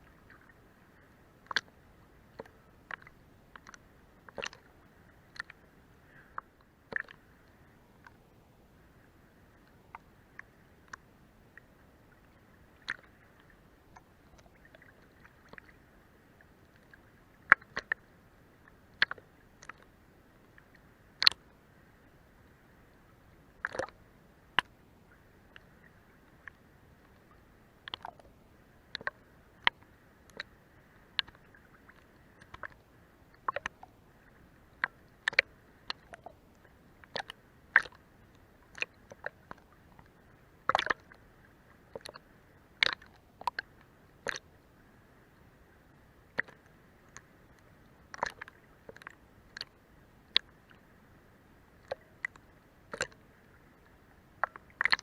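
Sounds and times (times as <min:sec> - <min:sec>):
water lapping against hull: 0:00.0 - 0:55.0.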